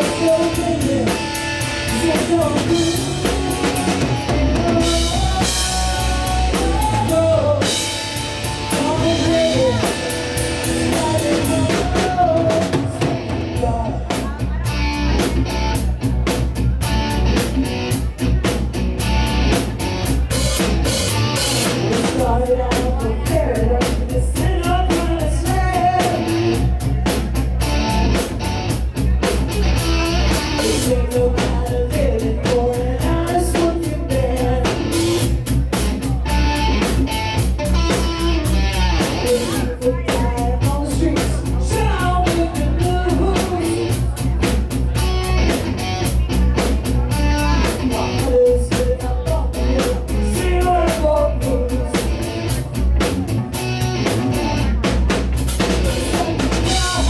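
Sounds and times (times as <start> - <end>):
person singing: 0.0 - 15.7, 21.3 - 28.2, 29.2 - 45.5, 46.4 - 53.5, 54.1 - 57.0
bass guitar: 0.0 - 57.0
drum kit: 0.0 - 57.0
electric guitar: 0.0 - 57.0.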